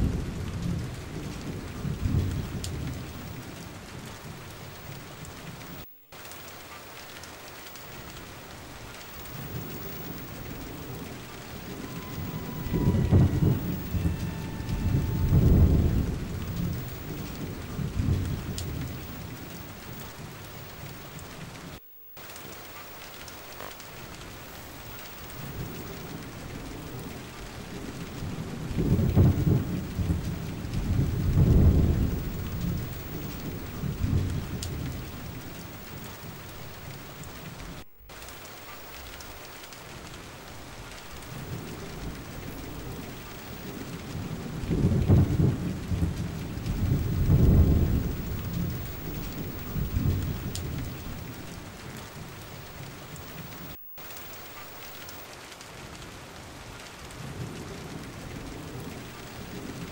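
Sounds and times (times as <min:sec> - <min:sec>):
rolling thunder: 0:00.0 - 0:05.9, 0:07.6 - 0:21.8, 0:22.4 - 0:55.2, 0:57.2 - 0:59.9
steady rain: 0:00.0 - 0:59.9.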